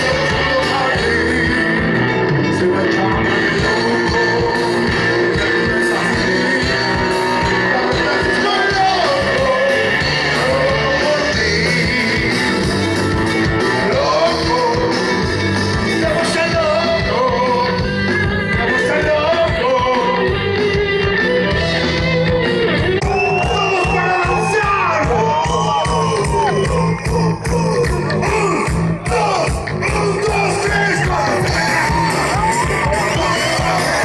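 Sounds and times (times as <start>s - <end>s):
man singing: 0.0s - 22.0s, 23.3s - 34.0s
live rock band playing: 0.0s - 34.0s.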